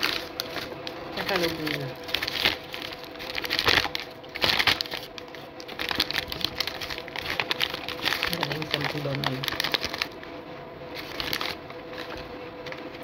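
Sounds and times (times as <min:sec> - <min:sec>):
paper bag crinkling: 0:00.0 - 0:13.0.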